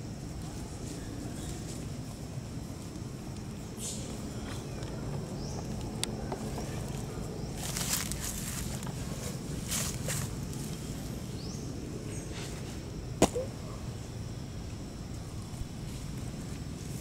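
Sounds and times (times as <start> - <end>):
leaves rustling: 0.0 - 17.0
low background noise: 0.0 - 17.0.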